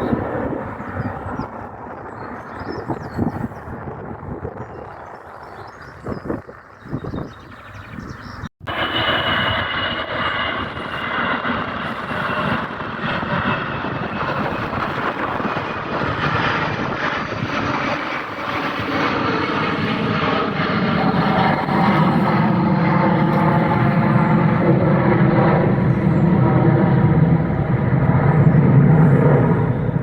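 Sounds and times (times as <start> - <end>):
aircraft engines running: 0.0 - 30.0.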